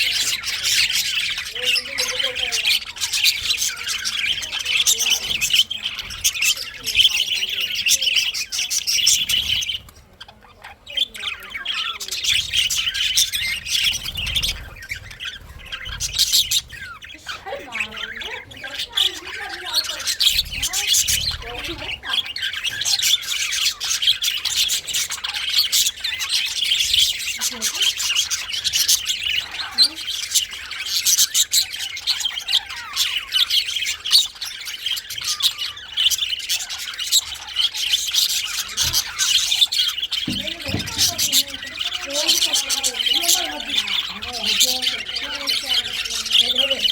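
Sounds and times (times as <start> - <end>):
budgerigars chirping and warbling: 0.0 - 46.9.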